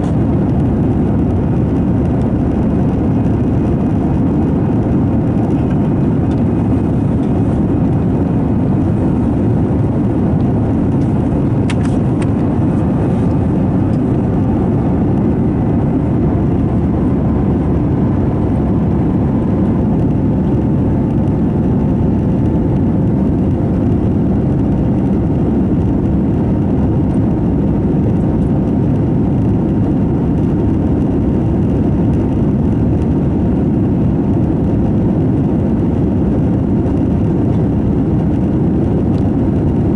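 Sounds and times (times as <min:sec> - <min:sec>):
faint steady hum: 0:00.0 - 0:39.9
jet engine rumble in cabin: 0:00.0 - 0:39.9.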